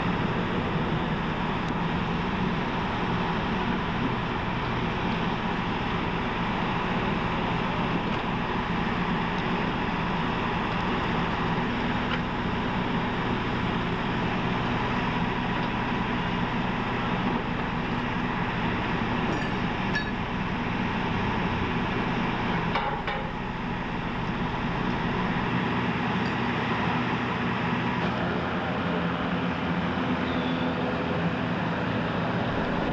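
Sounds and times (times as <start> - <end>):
generators and air conditioning droning: 0.0 - 32.9.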